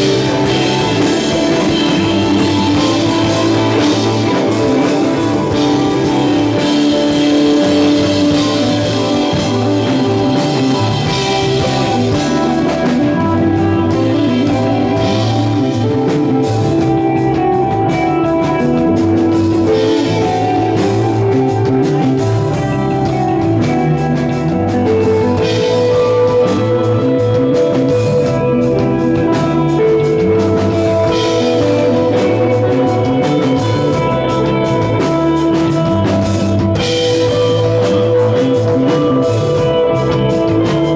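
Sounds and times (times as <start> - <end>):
bass guitar: 0.0 - 40.9
drum kit with cymbals: 0.0 - 40.9
sustained electric guitar notes: 0.0 - 40.9.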